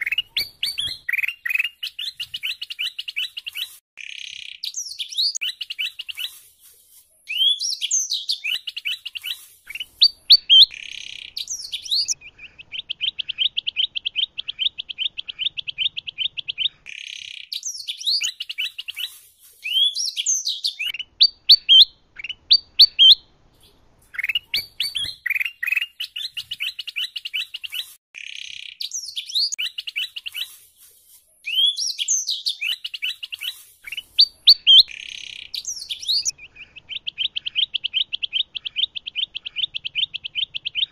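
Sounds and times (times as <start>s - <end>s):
bird trilling: 0.0s - 6.3s, 7.3s - 19.0s, 24.2s - 30.5s, 31.5s - 40.9s
birds chirping: 0.0s - 40.9s.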